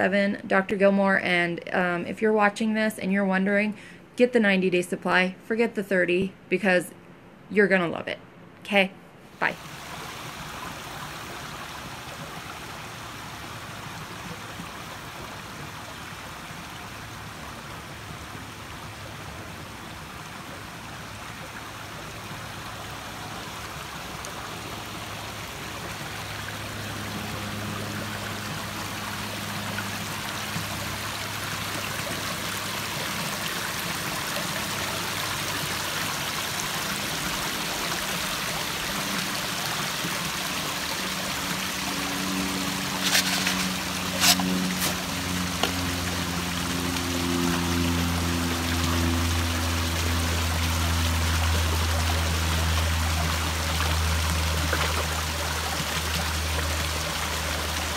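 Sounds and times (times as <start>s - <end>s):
water trickling into pond: 9.4s - 57.9s.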